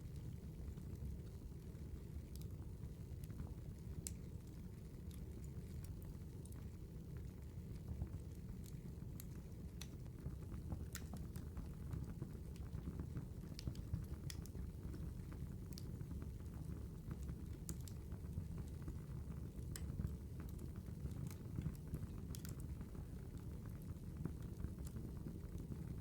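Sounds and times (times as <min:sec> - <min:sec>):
campfire crackling: 0:02.0 - 0:26.0.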